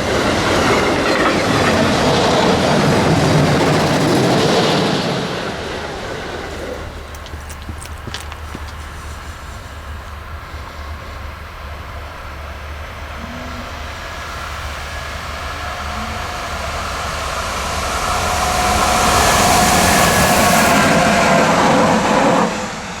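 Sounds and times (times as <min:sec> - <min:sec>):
steady train whine: 0:00.0 - 0:23.0
train running rumble: 0:00.0 - 0:23.0.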